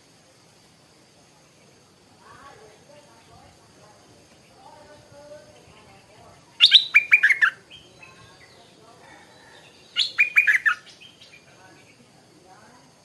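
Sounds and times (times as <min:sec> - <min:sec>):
bulbul singing: 0:01.4 - 0:12.2.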